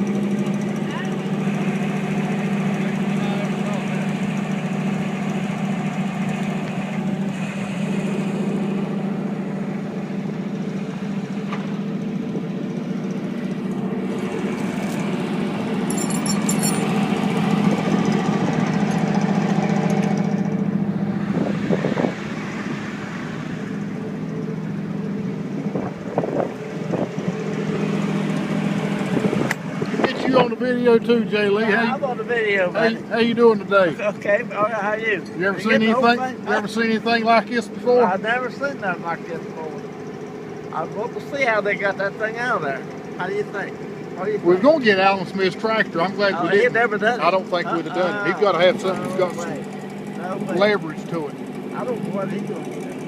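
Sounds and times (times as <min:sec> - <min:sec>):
vehicle engine running under load: 0:00.0 - 0:53.0.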